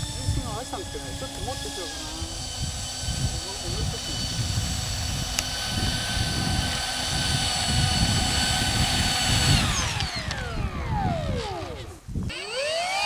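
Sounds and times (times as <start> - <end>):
model jet fans whining: 0.0 - 13.0.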